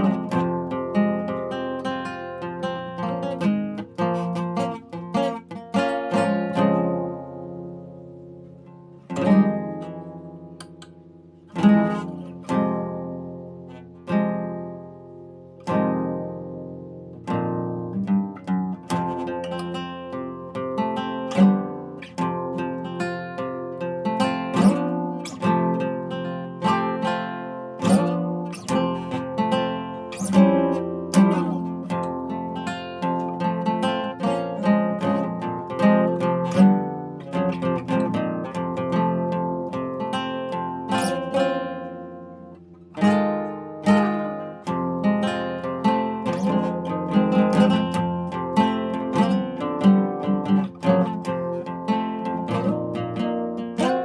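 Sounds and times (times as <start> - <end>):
acoustic guitar plucking and strumming: 0.0 - 54.0.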